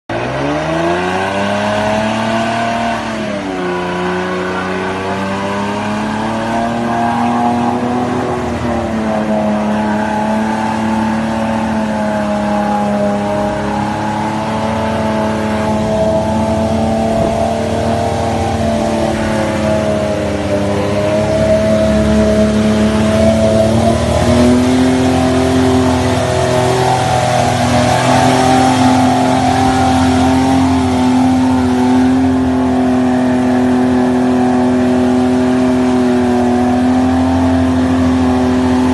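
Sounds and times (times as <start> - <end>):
engine revving under load: 0.1 - 38.9.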